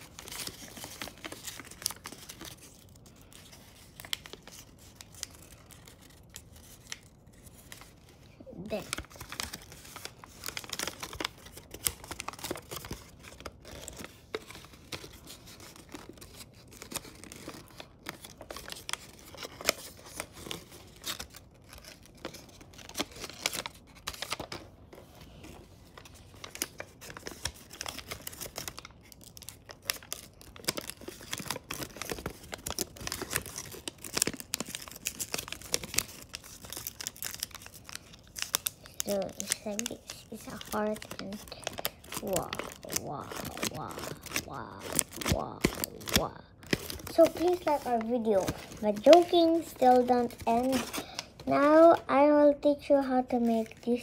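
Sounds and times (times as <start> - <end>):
paper crinkling and rustling: 0.0 - 54.0.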